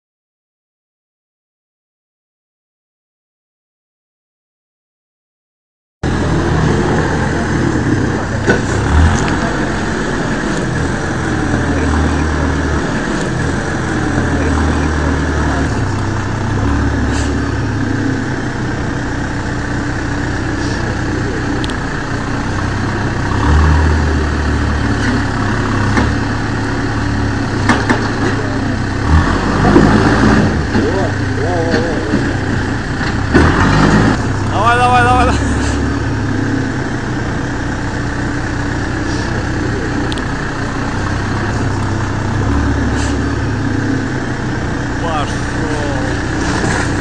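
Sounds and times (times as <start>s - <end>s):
backhoe diesel engine running: 6.0s - 47.0s.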